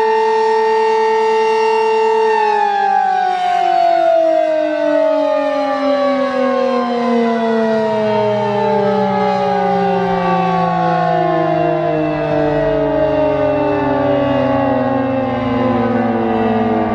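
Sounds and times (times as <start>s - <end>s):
warning siren winding down: 0.0s - 16.9s.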